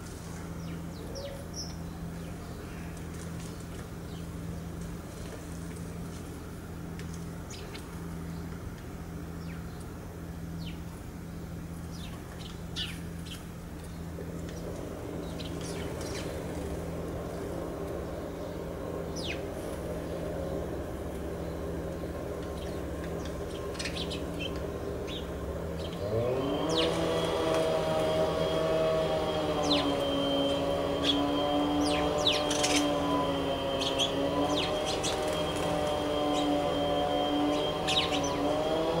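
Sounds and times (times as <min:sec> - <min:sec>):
sparrows chirping: 0:00.0 - 0:39.0
steady low hum: 0:00.0 - 0:39.0.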